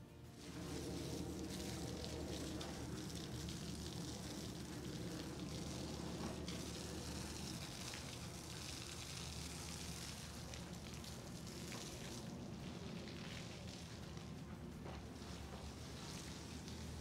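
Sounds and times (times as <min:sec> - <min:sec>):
engine running: 0:00.0 - 0:17.0
pressure washer spraying water: 0:00.4 - 0:17.0.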